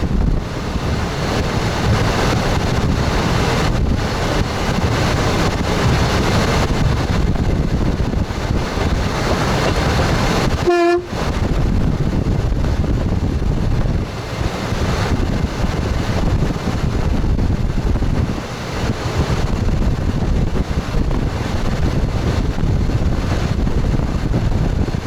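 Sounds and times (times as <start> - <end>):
train rumbling along track: 0.0 - 25.0.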